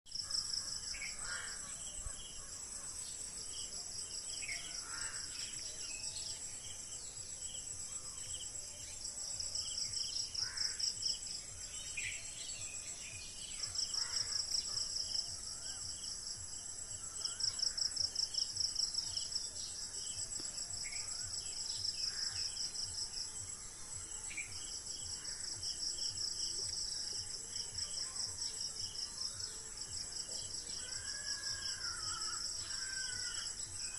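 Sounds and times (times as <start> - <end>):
pulsing insect chorus: 0.2 - 33.9.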